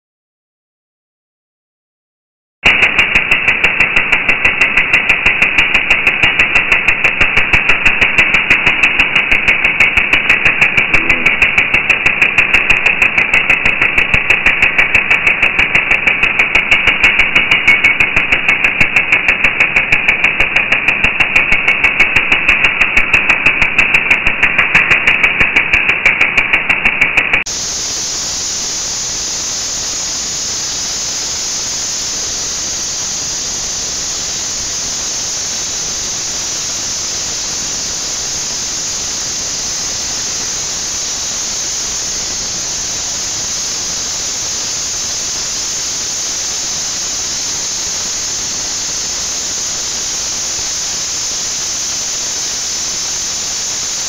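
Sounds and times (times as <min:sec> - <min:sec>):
high-pitched hiss: 0:02.6 - 0:54.0
jackhammer hammering: 0:02.6 - 0:54.0.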